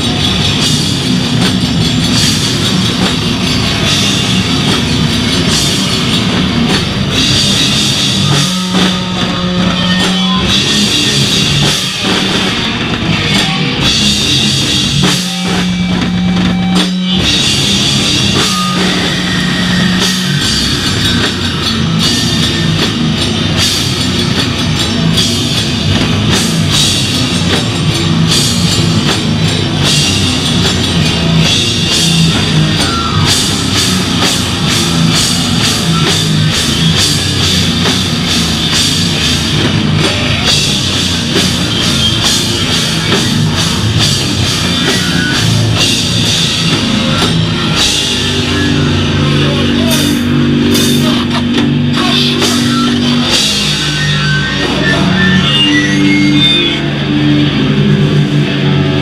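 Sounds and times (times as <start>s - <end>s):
distorted guitar and bass: 0.0s - 59.0s
drum kit with cymbal hits: 0.0s - 59.0s
hardcore band playing loud: 0.0s - 59.0s.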